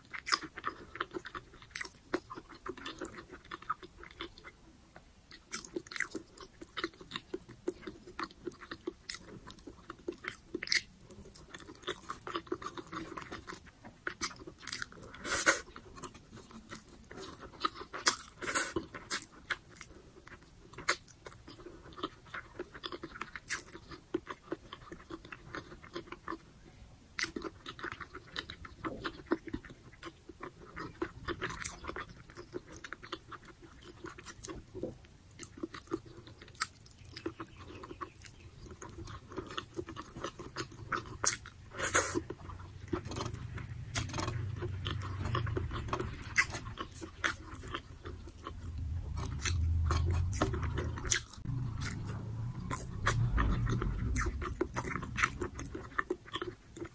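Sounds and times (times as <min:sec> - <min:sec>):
person chewing food: 0:00.0 - 0:56.9.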